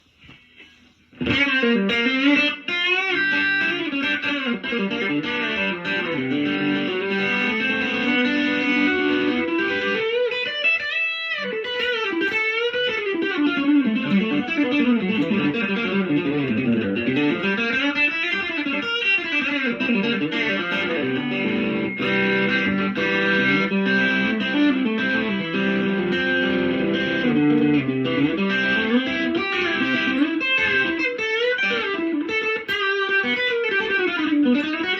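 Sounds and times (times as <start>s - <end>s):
electric guitar notes sliding: 0.4s - 10.5s, 11.4s - 34.9s.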